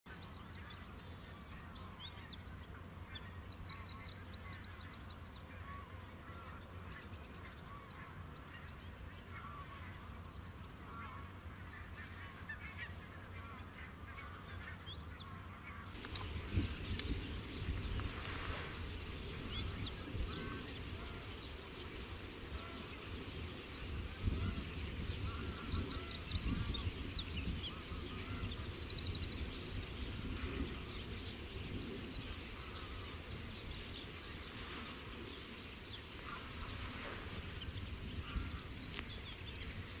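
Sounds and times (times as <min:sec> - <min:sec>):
birds chirping and trilling: 0:00.1 - 0:40.0.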